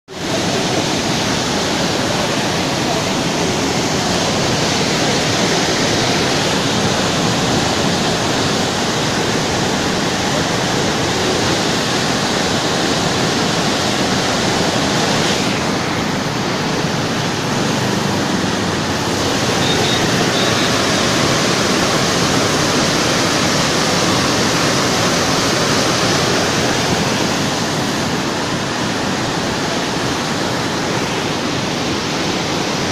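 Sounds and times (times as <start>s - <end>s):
water churning in river: 0.1s - 32.9s
water pouring over dam spillway: 0.1s - 32.9s.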